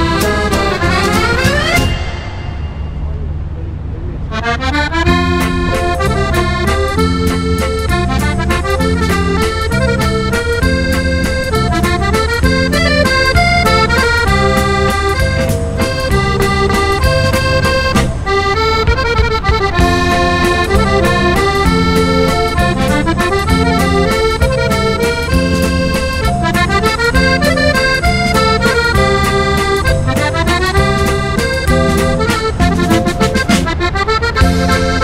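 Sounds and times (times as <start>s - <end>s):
accordion music: 0.0s - 3.1s, 4.2s - 35.0s.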